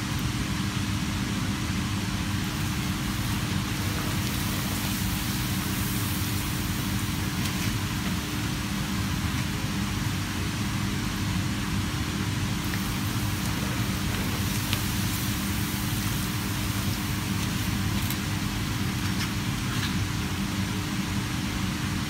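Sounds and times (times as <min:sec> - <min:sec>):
constant hum: 0:00.0 - 0:22.0
food sizzling in hot oil: 0:00.8 - 0:21.6.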